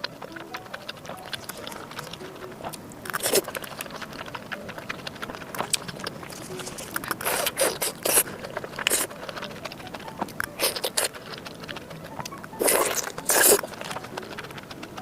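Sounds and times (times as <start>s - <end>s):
wet mouth clicks from chewing: 0.0s - 15.0s.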